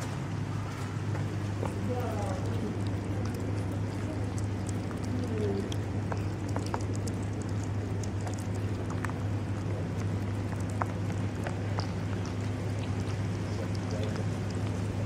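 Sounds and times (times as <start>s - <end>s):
kittens chewing meat: 0.0s - 15.0s
low hum: 0.0s - 15.0s.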